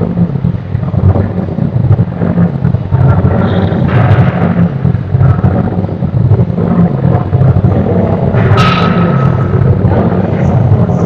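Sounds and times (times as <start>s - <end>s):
low rumble of weight room: 0.0s - 11.0s.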